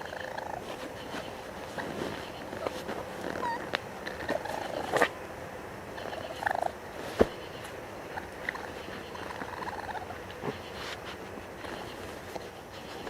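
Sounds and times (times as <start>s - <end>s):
raccoon purring trills and chirps: 0.0s - 5.2s, 5.8s - 13.0s.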